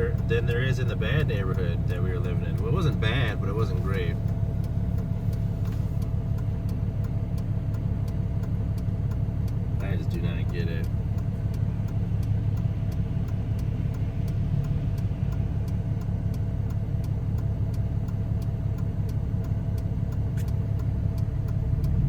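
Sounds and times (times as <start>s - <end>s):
faint regular ticking: 0.0s - 22.0s
truck engine and road noise: 0.0s - 22.0s.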